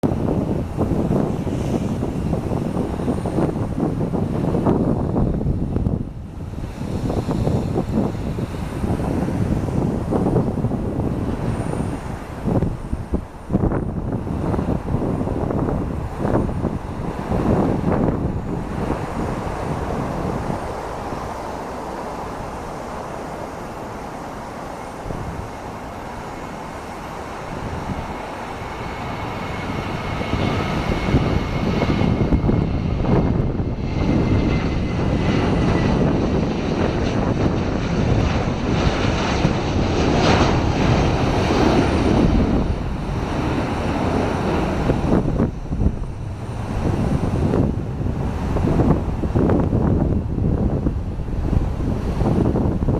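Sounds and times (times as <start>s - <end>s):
high fan whine: 0.0s - 52.9s
jet engines roaring: 0.0s - 52.9s.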